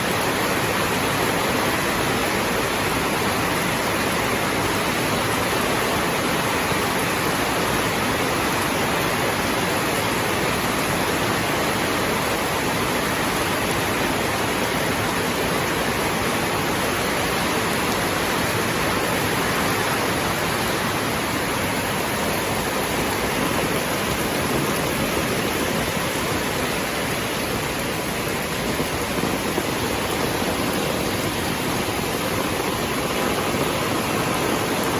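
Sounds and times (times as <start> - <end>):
rain falling steadily: 0.0 - 34.9.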